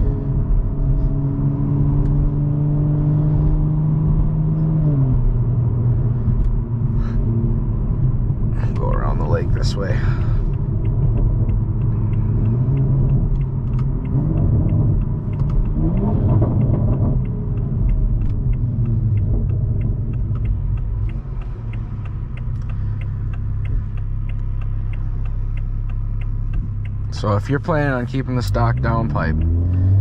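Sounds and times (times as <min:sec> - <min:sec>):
car exhaust rumble: 0:00.0 - 0:30.0
light regular ticking: 0:05.4 - 0:30.0.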